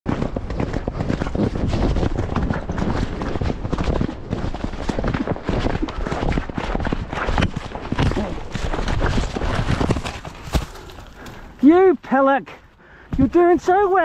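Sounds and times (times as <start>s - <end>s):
wind rumbling on microphone: 0.1s - 11.6s
horse hoofbeats: 0.1s - 14.0s.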